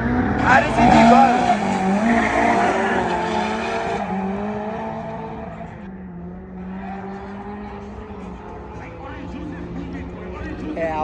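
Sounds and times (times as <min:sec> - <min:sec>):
race car engines pulling away: 0:00.0 - 0:11.0.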